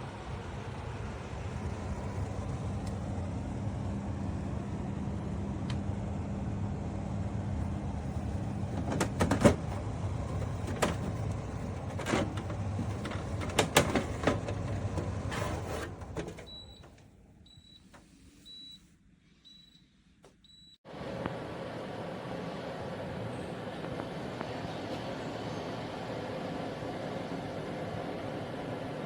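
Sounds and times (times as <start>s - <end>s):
dehumidifier humming: 0.0s - 18.2s, 20.9s - 29.0s.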